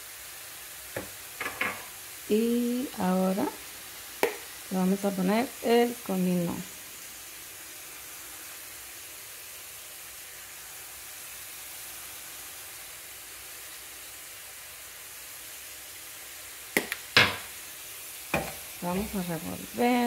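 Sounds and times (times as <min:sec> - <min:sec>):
vegetables sizzling in frying pan: 0:00.0 - 0:20.0.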